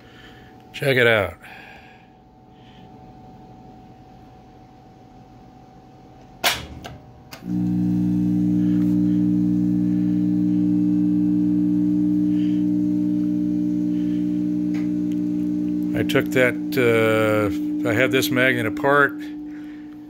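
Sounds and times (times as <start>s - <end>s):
loud electrical hum: 0.0s - 20.0s.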